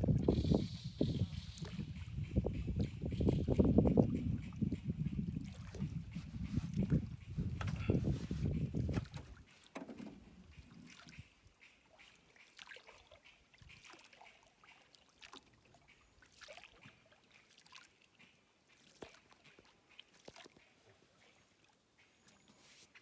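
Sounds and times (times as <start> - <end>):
water lapping around boat: 0.0 - 23.0.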